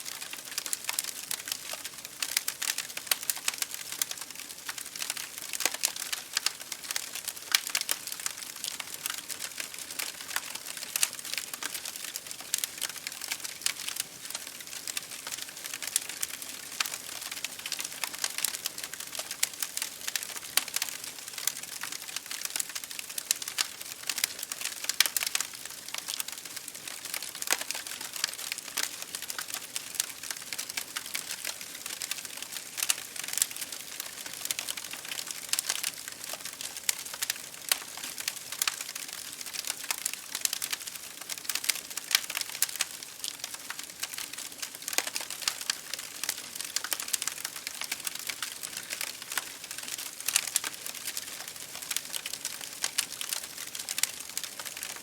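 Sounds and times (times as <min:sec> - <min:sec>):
rain pattering on a window: 0:00.0 - 0:55.0
wood fire crackling: 0:00.0 - 0:55.0.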